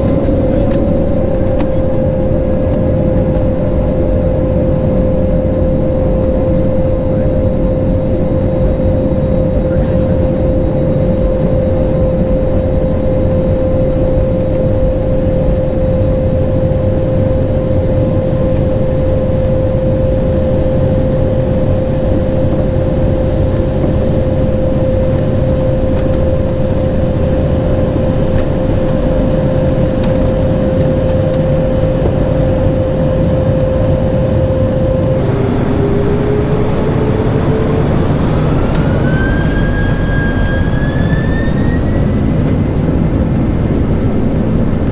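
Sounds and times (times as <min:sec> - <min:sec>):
jet engine whine rising: 0:00.0 - 0:44.9
jet engines rumbling in cabin: 0:00.0 - 0:44.9.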